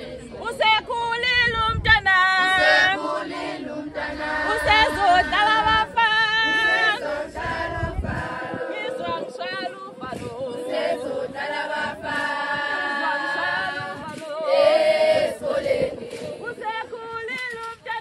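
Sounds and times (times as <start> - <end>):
women singing unaccompanied: 0.0 - 18.0.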